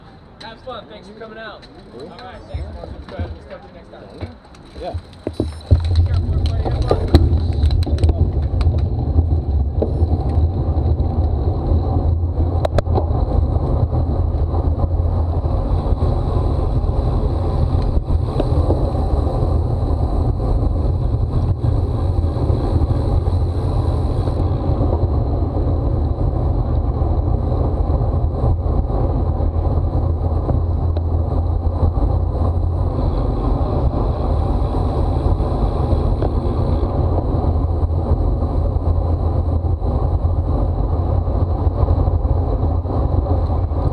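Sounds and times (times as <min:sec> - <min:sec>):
wind rushing over microphone: 0:04.8 - 0:43.9.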